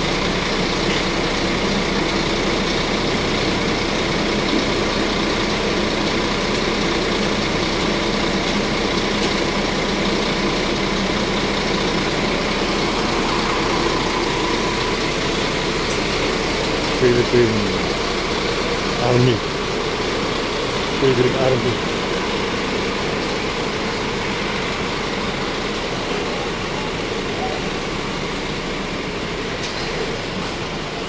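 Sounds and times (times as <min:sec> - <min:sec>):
road noise: 0:00.0 - 0:31.0
vehicle engine running: 0:00.0 - 0:31.0.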